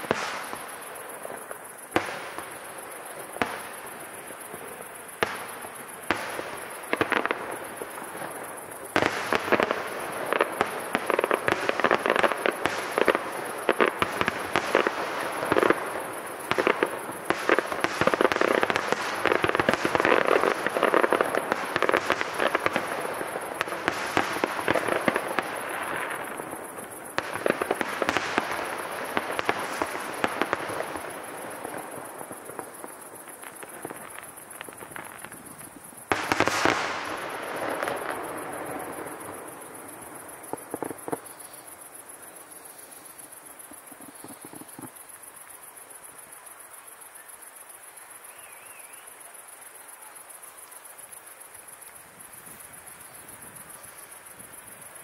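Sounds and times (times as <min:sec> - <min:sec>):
firework bangs: 0:00.0 - 0:45.0.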